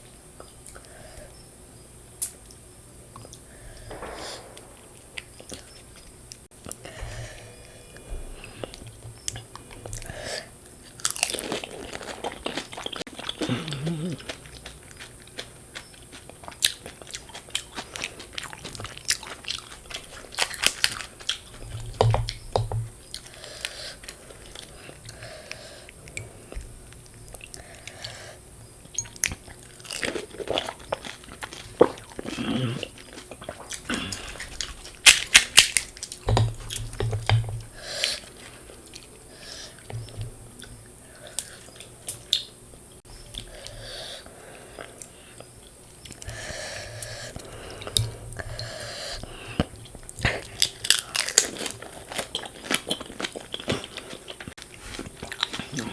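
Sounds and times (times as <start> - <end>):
crunchy food being chewed: 2.2 - 55.9.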